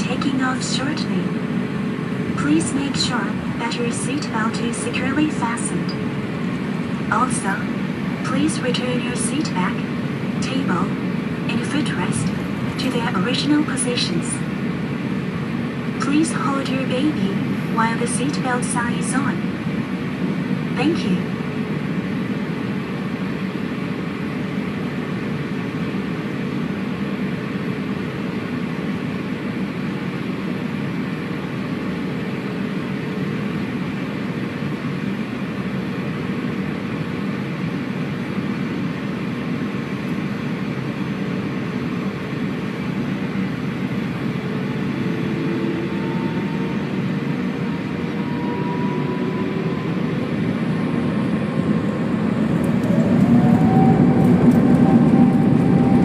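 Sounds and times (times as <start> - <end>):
airplane cabin rumble: 0.0 - 56.0
jet engines whining: 0.0 - 56.0.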